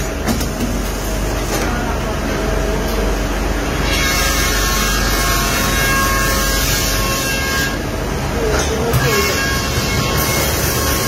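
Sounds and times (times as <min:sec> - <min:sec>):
factory machinery hissing and humming: 0:00.0 - 0:11.0.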